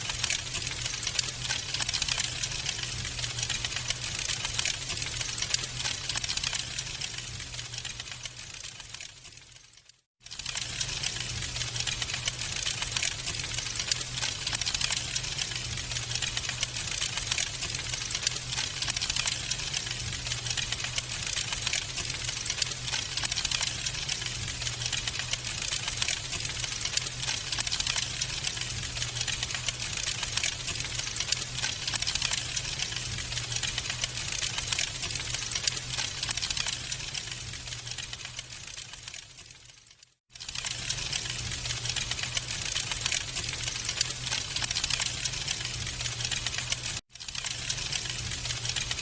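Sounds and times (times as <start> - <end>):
wood fire crackling: 0.0 - 9.8, 10.4 - 39.8, 40.4 - 49.0.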